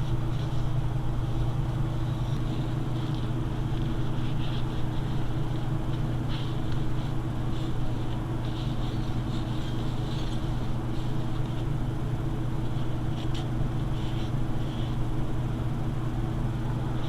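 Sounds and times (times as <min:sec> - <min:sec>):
paper towel rubbing: 0:00.0 - 0:15.4
steady low hum: 0:00.0 - 0:17.0.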